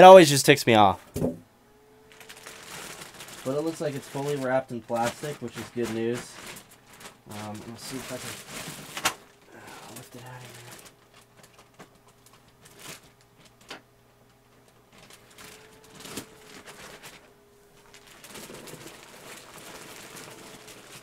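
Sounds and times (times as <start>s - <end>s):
plastic wrapping crinkling: 2.1s - 21.0s.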